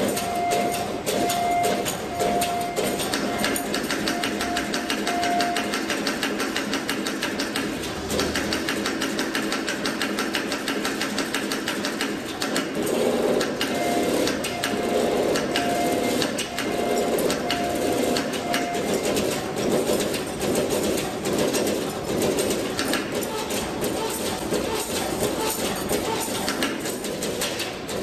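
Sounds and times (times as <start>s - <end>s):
wire-bending machine clattering: 0.0s - 28.0s.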